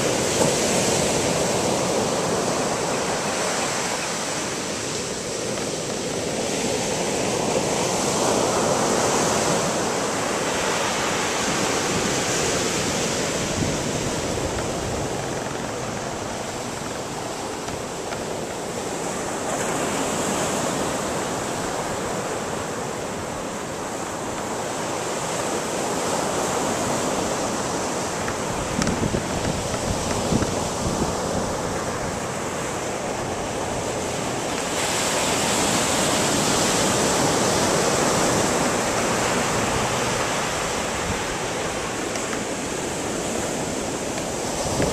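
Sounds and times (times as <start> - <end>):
ocean surf breaking: 0.0 - 44.9.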